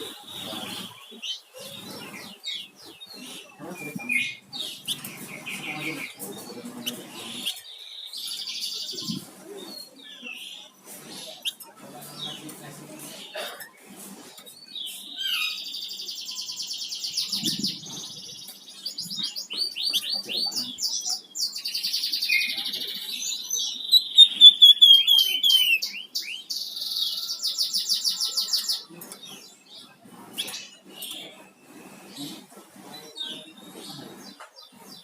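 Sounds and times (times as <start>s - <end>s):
songbird chirping and trilling: 0.0s - 13.5s, 14.3s - 35.0s.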